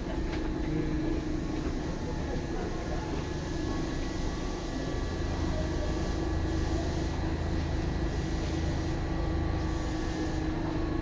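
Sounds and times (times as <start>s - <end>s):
electric motor hum: 0.0s - 11.0s.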